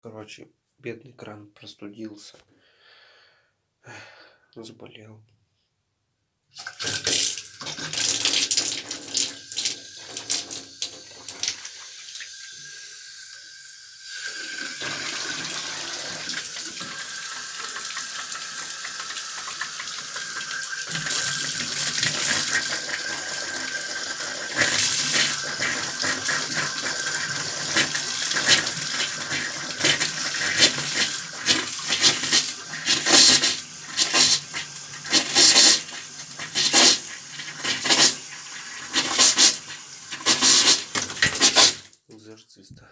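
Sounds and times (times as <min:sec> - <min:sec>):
water tap running: 0:06.6 - 0:42.0.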